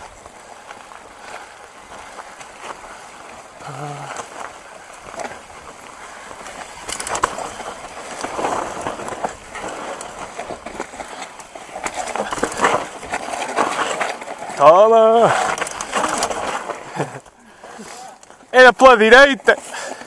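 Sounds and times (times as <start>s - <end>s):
bike rattling and knocking: 0.0s - 17.4s
tyres crunching over dirt and stones: 0.0s - 20.0s.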